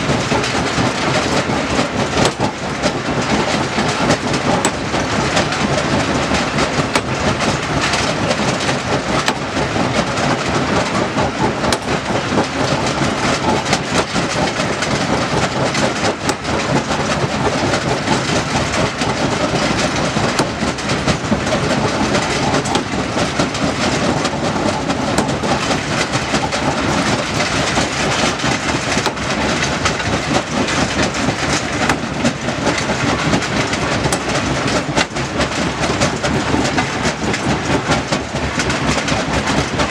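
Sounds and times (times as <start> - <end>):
heavy machinery clattering: 0.0 - 39.9.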